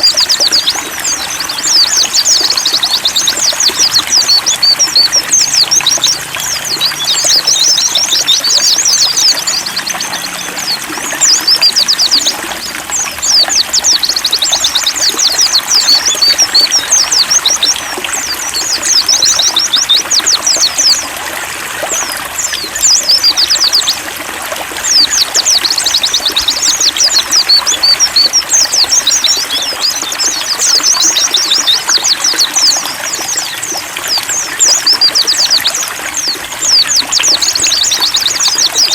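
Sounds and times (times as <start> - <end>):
birds twittering: 0.0 - 38.9
trickle of running water: 0.0 - 38.9.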